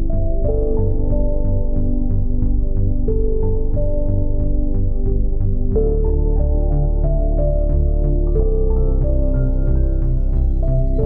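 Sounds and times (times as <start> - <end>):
ambient synthesizer music: 0.0 - 11.0.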